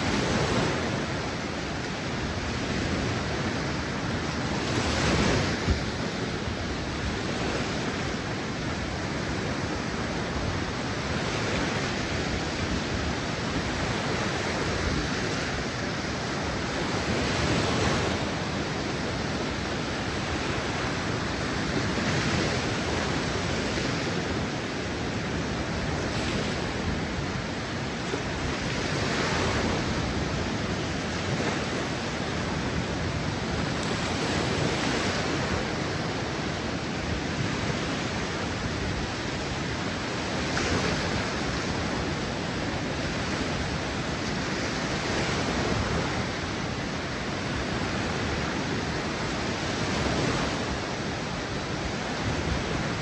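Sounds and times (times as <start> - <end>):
waves washing onto sand: 0.0 - 53.0.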